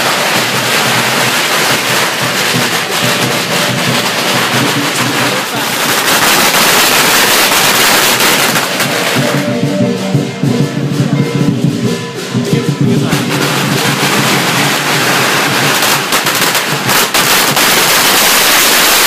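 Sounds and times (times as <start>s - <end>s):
firecrackers popping: 0.0s - 19.0s.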